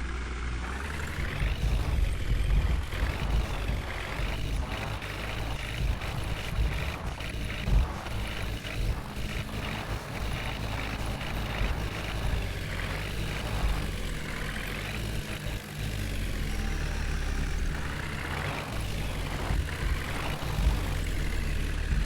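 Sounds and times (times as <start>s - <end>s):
heavy diesel engines revving: 0.0s - 22.0s.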